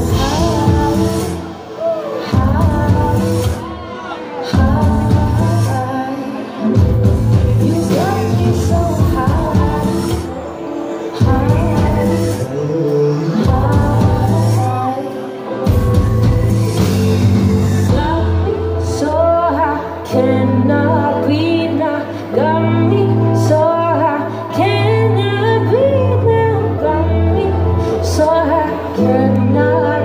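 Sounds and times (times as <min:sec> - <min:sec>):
woman singing into microphone: 0:00.0 - 0:16.5, 0:17.6 - 0:30.0
electronic r and b backing track: 0:00.0 - 0:30.0.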